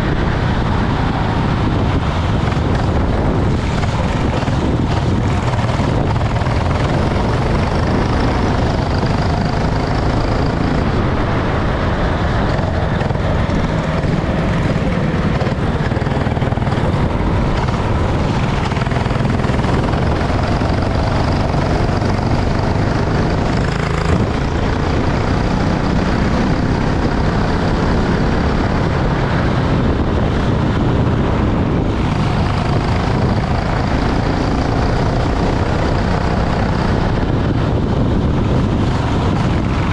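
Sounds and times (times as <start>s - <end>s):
kart engine running: 0.0s - 39.9s
wind and road noise: 0.0s - 39.9s.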